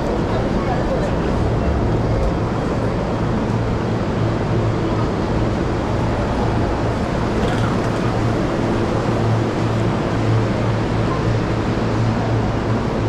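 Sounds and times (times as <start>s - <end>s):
busy railway station noise: 0.0s - 13.0s.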